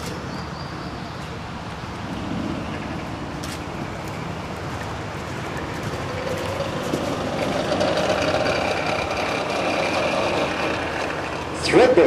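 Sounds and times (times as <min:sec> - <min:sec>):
motor vehicle running: 0:00.0 - 0:12.0.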